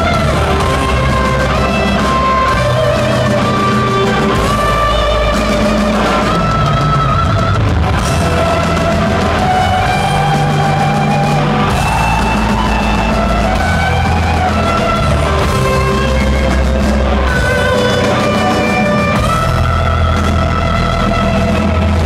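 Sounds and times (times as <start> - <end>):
live metal band playing: 0.0 - 22.0.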